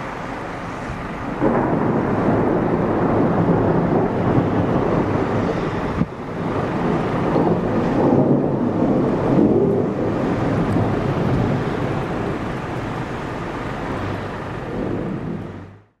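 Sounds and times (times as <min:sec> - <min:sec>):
low thunder rumble: 0:00.0 - 0:15.9
steady rain: 0:00.0 - 0:16.0.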